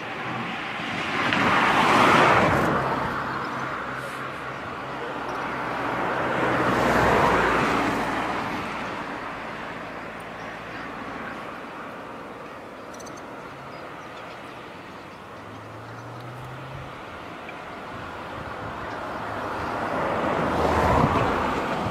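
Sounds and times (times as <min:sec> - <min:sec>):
low traffic hum: 0:00.0 - 0:21.9
vehicle passing: 0:00.0 - 0:21.9.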